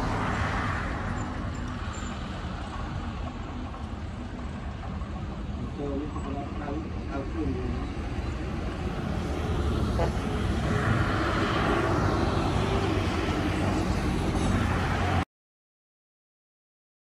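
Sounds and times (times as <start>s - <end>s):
excavator diesel engine under load: 0.0s - 15.2s.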